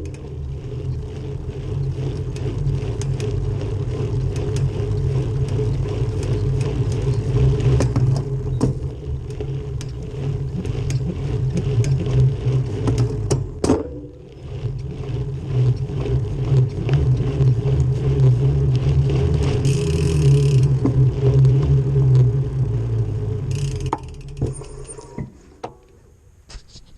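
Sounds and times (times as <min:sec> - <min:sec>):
bicycle drivetrain clicking: 0:00.0 - 0:25.2
drivetrain low rumble: 0:00.0 - 0:25.4.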